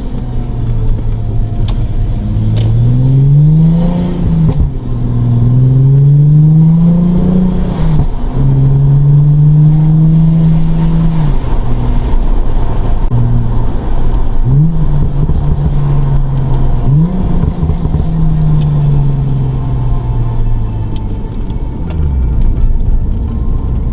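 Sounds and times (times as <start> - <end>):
car engine revving: 0.0 - 23.9
exhaust crackling on overrun: 0.0 - 23.9.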